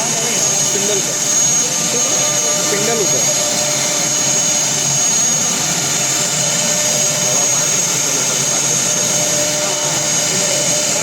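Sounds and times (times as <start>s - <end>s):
high steady whine: 0.0s - 11.0s
router machine running: 0.0s - 11.0s.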